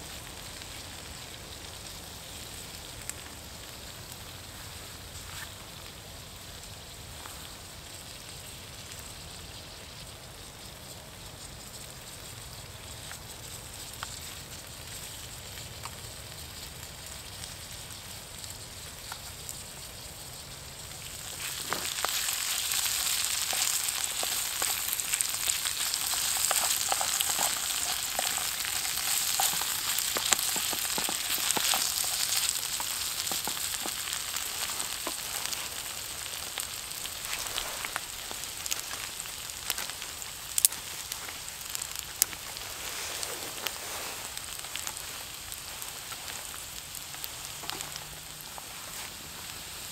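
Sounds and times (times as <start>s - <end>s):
vegetables sizzling in pan: 0.0s - 49.9s.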